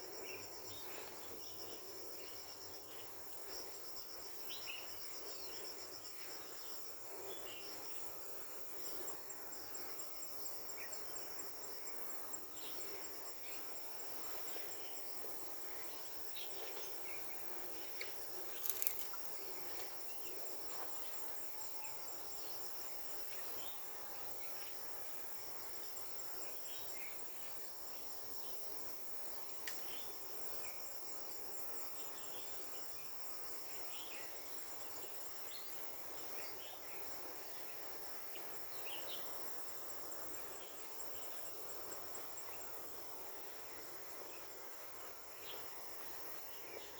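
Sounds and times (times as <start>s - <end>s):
insects chirring chorus: 0.0s - 46.9s.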